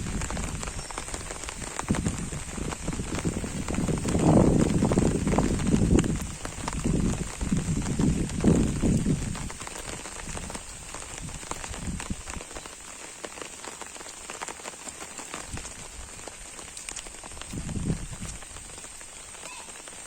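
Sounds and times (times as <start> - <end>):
rain on an umbrella: 0.0 - 20.0.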